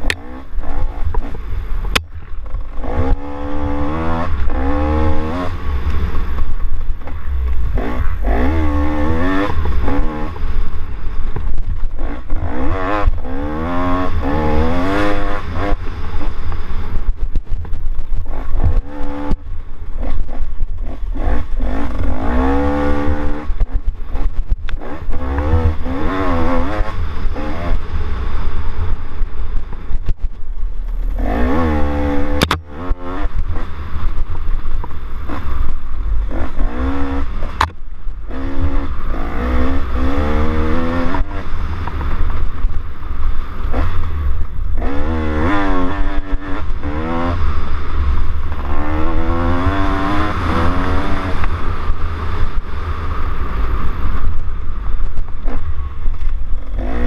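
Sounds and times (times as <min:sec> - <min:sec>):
dirt bike engine revving: 0:00.0 - 0:17.3, 0:18.2 - 0:30.1, 0:31.0 - 0:57.0
wind buffeting camera: 0:00.0 - 0:57.0.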